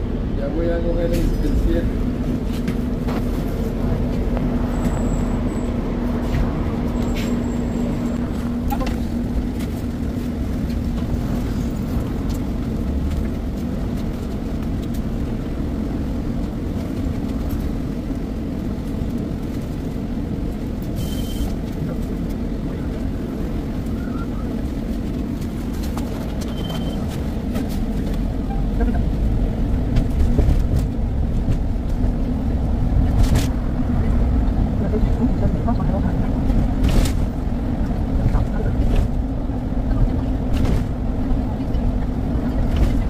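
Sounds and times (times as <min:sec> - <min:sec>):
bus engine and road rumble: 0:00.0 - 0:43.0.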